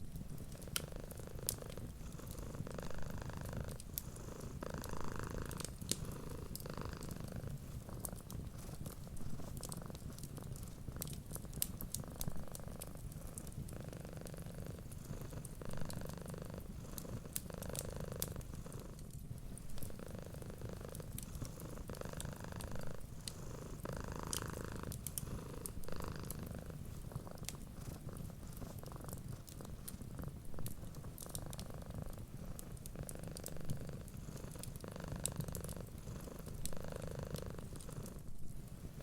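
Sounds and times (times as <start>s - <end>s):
cat purring: 0.0s - 39.0s
wood fire crackling: 0.0s - 39.0s.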